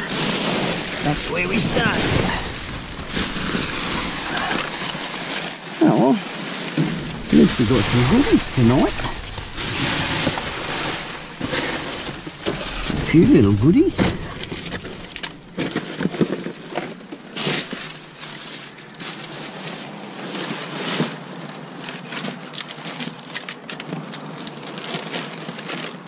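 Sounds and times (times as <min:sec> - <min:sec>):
plastic and cardboard rustling: 0:00.0 - 0:26.0.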